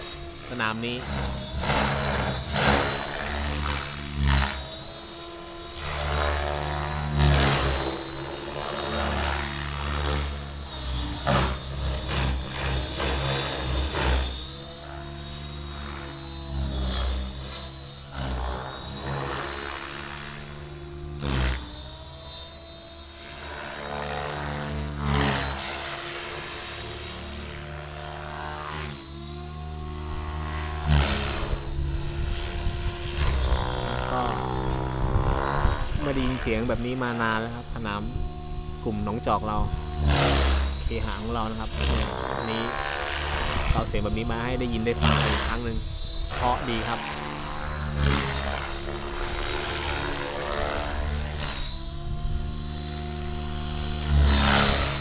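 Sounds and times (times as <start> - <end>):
helicopter rotor and engine: 0.0 - 55.0
high turbine whine: 0.0 - 55.0.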